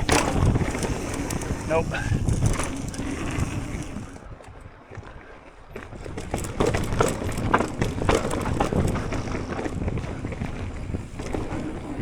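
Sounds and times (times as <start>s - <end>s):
bike knocking and rattling: 0.0s - 5.1s, 5.7s - 12.0s
bike tyres rumbling on dirt: 0.0s - 12.0s
wind on microphone: 0.0s - 12.0s.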